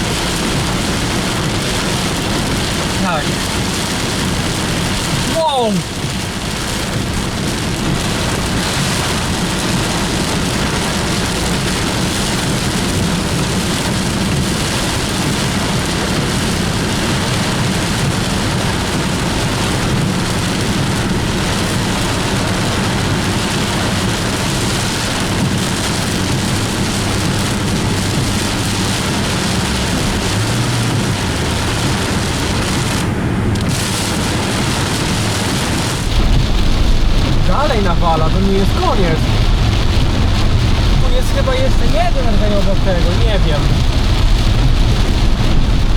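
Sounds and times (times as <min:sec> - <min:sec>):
heavy rain drumming on car roof: 0:00.0 - 0:45.9.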